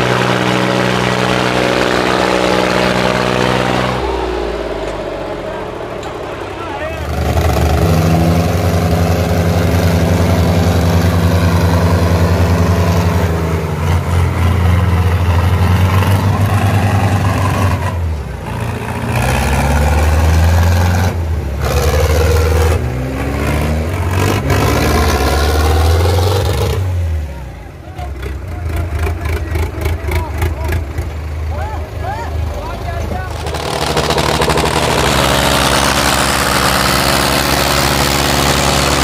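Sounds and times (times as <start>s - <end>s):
tractor engines under heavy load: 0.0s - 39.0s.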